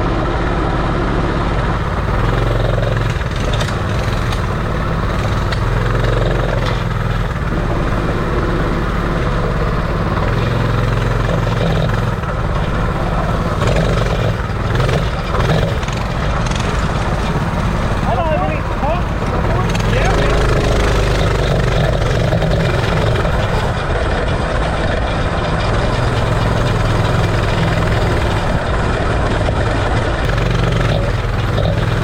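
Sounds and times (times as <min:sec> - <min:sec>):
minibike engine running: 0:00.0 - 0:32.0.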